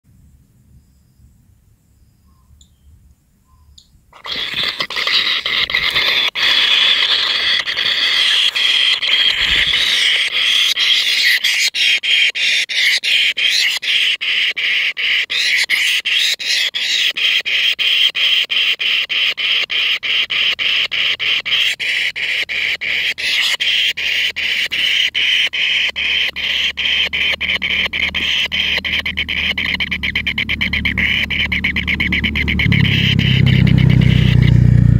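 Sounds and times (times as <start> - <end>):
nestlings begging calls: 4.2 - 34.5.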